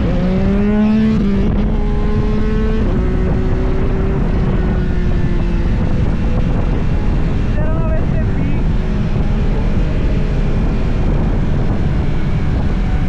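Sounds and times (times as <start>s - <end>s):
motorcycle engine running hard: 0.0s - 13.0s
wind rushing over microphone: 0.0s - 13.0s.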